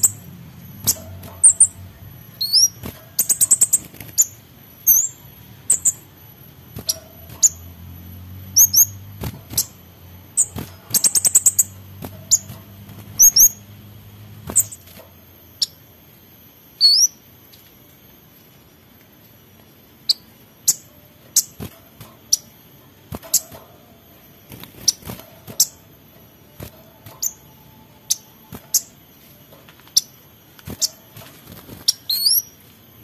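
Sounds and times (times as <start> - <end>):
thrush singing whistled notes and trills: 0.0 - 15.9, 16.5 - 17.7, 20.0 - 21.6, 23.2 - 33.0.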